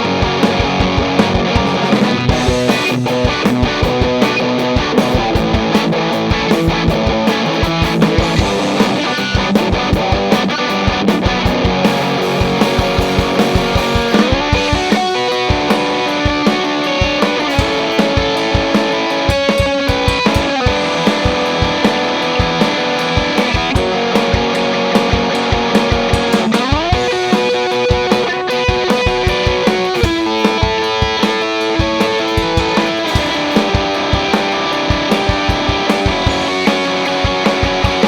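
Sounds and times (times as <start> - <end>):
overdriven electric guitar: 0.0 - 38.0
steady drum beat: 0.0 - 38.0.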